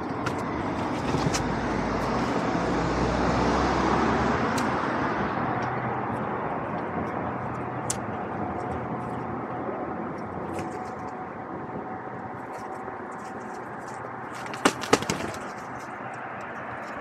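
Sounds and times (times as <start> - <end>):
distant traffic hum: 0.0 - 17.0.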